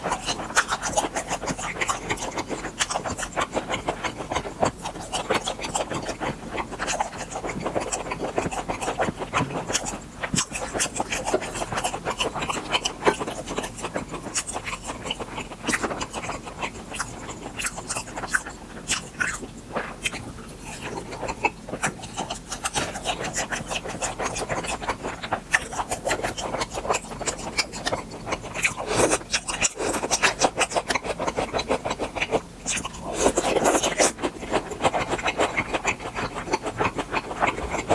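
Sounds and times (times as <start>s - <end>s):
close chewing and mouth clicks: 0.0s - 37.9s.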